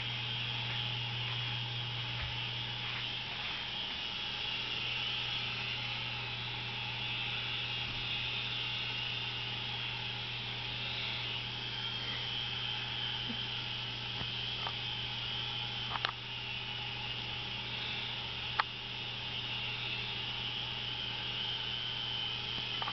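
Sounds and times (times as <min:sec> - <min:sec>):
low hum: 0:00.0 - 0:22.9
toy helicopter rotors whirring: 0:00.0 - 0:22.9.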